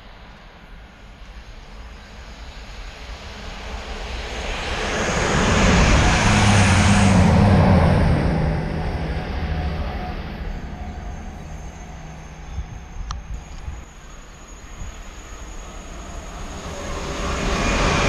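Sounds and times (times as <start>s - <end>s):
train passing: 0.0s - 18.0s.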